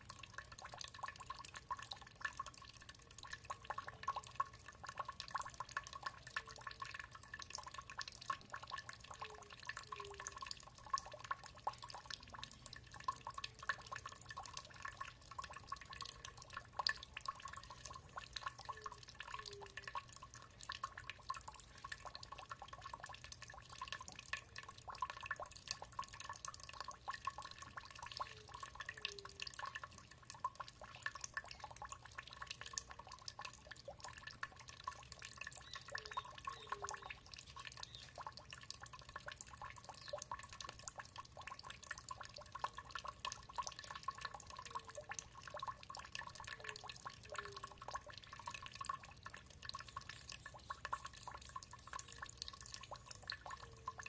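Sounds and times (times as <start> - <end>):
water dripping and trickling: 0.0 - 54.0.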